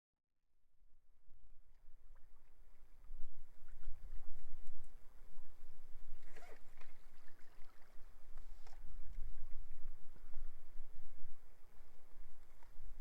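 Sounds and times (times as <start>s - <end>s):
wind buffeting microphone: 2.2s - 13.0s.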